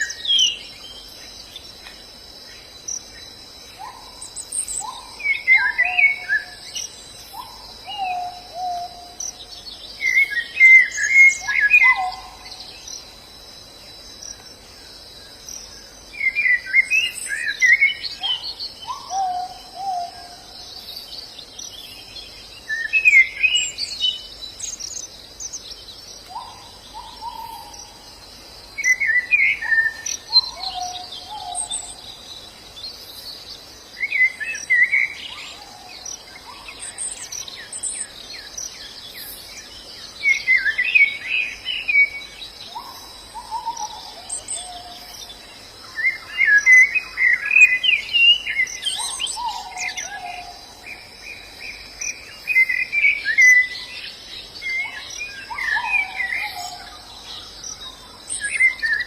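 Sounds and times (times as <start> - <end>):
birds twittering: 0.0 - 13.3, 13.9 - 59.0
insect drone: 0.0 - 59.0.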